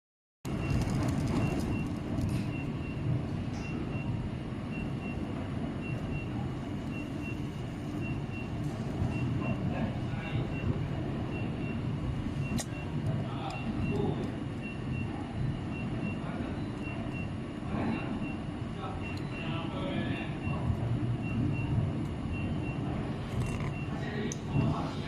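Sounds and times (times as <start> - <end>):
machinery hum: 0.5 - 25.0.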